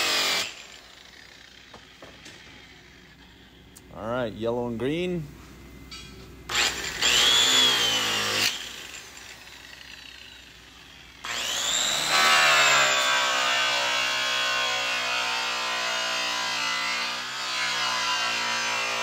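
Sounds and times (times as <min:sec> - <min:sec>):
rotary polisher whining: 0:00.0 - 0:03.8, 0:06.5 - 0:19.0.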